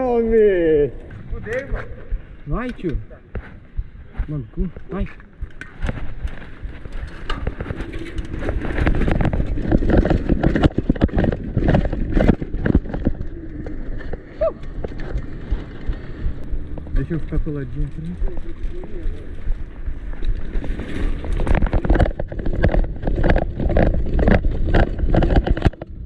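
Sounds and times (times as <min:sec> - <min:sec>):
steady low rumble: 0:00.0 - 0:26.0
bike knocks and clatters: 0:04.8 - 0:26.0.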